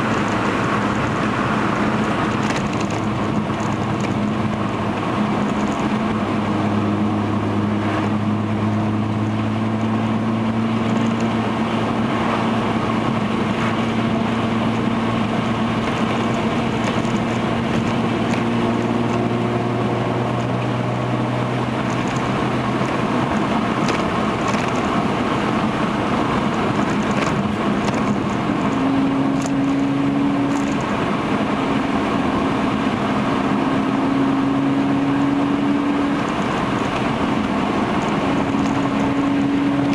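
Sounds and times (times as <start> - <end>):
car exhaust drone: 0.0 - 39.9
tyre and road noise: 0.0 - 39.9.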